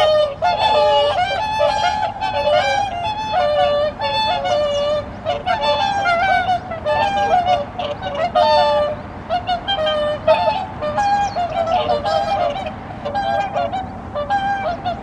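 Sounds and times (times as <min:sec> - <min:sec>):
swans honking: 0:00.0 - 0:15.0.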